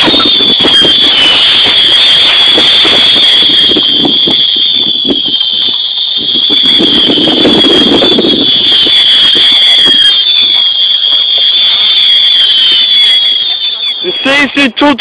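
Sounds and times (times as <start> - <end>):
fireworks crackling and fizzing: 0.0 - 15.0
fireworks whistling screech: 0.0 - 15.0.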